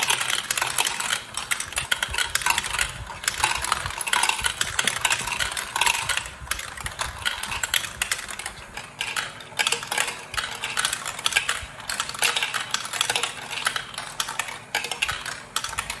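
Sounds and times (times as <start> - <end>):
plastic balls clattering on track: 0.0 - 16.0.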